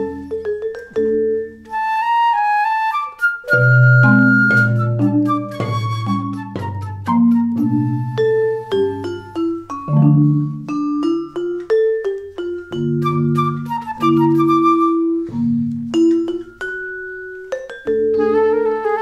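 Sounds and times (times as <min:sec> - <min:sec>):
vibraphone: 0:00.0 - 0:01.9, 0:03.4 - 0:19.0
marimba: 0:00.0 - 0:02.1, 0:03.2 - 0:19.0.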